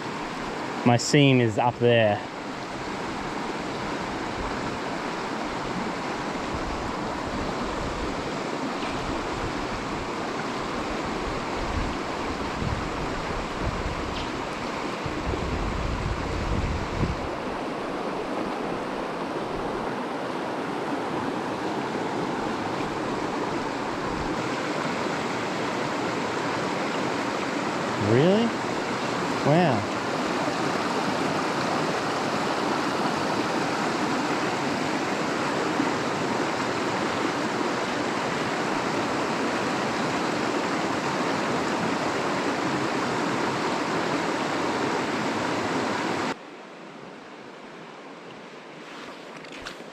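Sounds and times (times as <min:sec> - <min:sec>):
river water rushing over riffles: 0:00.0 - 0:49.9.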